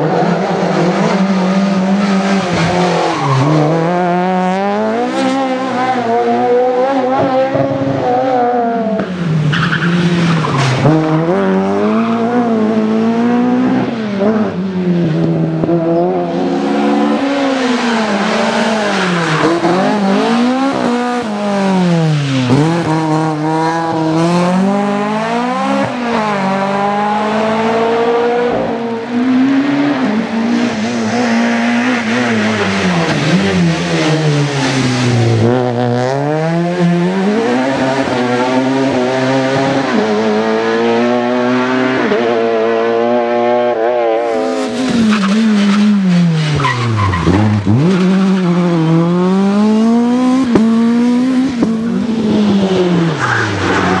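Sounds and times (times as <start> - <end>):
rally car engines revving hard: 0.0 - 54.0.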